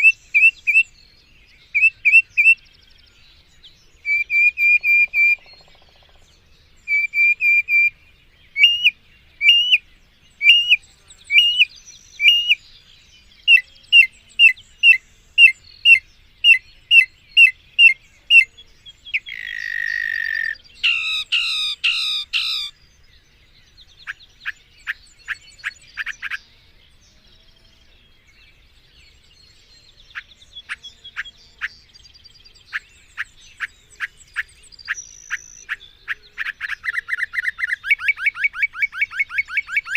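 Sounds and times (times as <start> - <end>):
mockingbird singing varied phrases: 0.0 - 1.0, 1.6 - 3.0, 4.0 - 6.2, 6.8 - 22.8, 23.8 - 26.5, 29.9 - 39.9.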